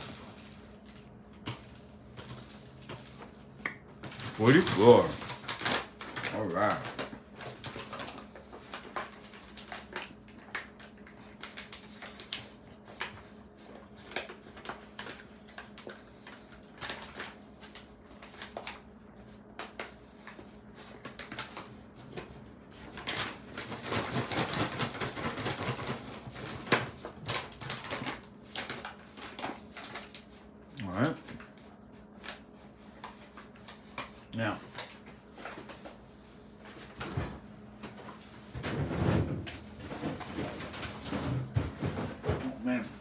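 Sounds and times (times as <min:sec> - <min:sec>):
paper bags rustling: 0:00.0 - 0:43.0.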